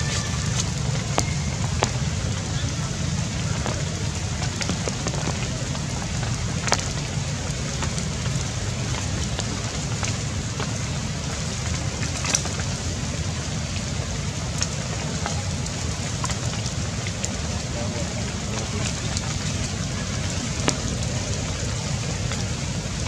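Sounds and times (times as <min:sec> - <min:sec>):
rushing noise with low rumble: 0:00.0 - 0:23.0.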